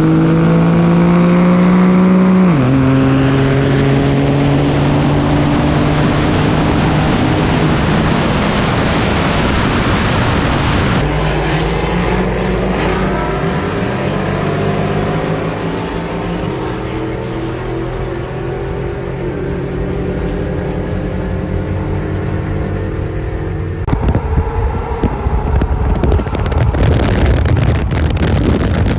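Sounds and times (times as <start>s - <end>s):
truck engine accelerating: 0.0s - 28.9s
wind and road noise: 0.0s - 28.9s.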